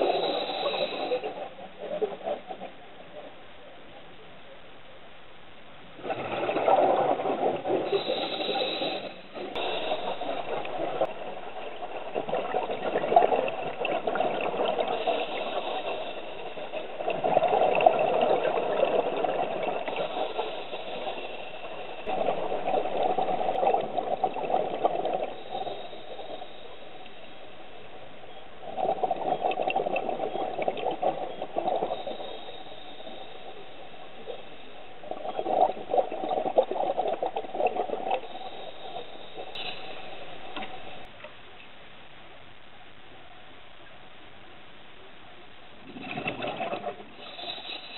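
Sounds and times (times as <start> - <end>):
underwater bubbles gurgling: 0.0 - 3.8, 5.8 - 41.3, 45.7 - 47.9.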